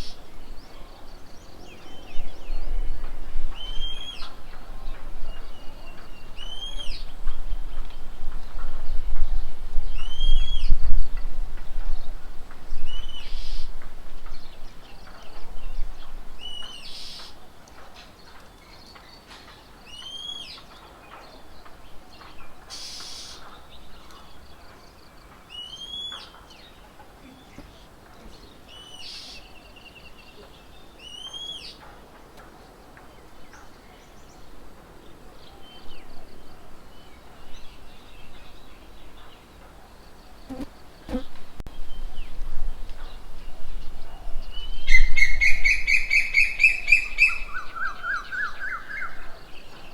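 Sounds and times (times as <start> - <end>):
outdoor background noise: 0.0 - 49.9.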